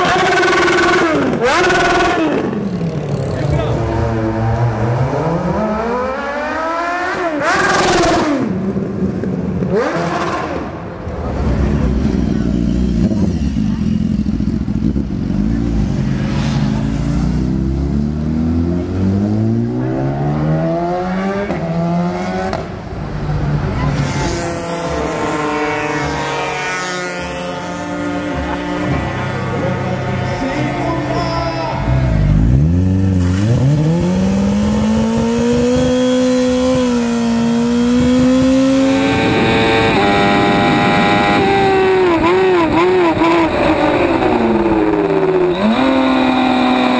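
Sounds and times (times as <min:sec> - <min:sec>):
motorcycle engine accelerating: 0:00.0 - 0:22.8, 0:31.8 - 0:46.9.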